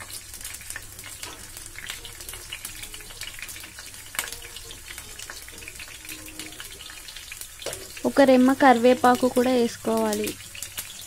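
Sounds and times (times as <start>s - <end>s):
chillies dropped into crackling oil: 0.0s - 11.0s
onions sizzling in hot oil: 0.0s - 11.0s.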